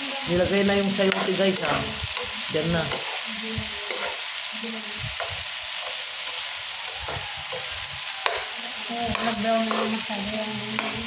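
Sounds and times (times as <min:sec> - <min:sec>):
food sizzling in frying pan: 0:00.0 - 0:11.0
spatula scraping pan: 0:00.4 - 0:11.0.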